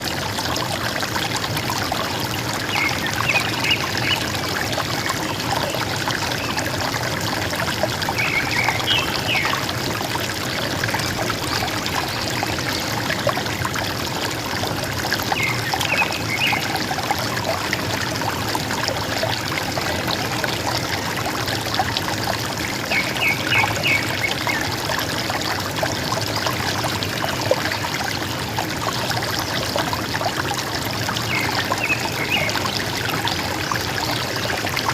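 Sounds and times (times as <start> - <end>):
river water gurgling: 0.0 - 34.9.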